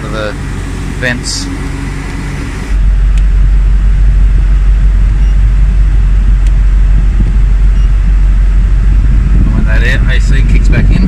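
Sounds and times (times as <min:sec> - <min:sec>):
air conditioning blowing: 0:00.0 - 0:11.0
car engine running: 0:00.0 - 0:11.0.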